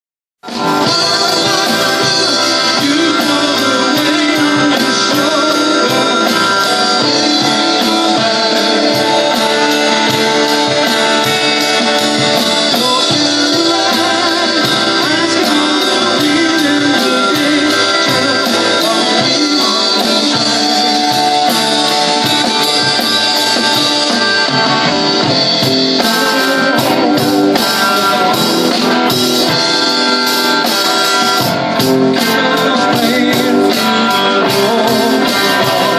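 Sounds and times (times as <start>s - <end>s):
drum kit: 0.4s - 35.9s
electric guitars: 0.4s - 35.9s.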